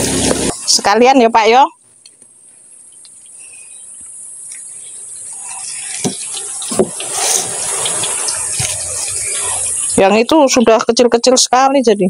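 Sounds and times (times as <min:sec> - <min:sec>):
hot oil sizzling: 0:00.0 - 0:01.7, 0:02.4 - 0:10.7.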